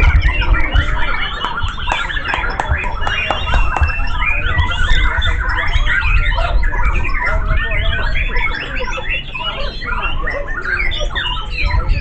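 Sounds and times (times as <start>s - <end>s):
birds whistling and chirping: 0.0s - 12.0s.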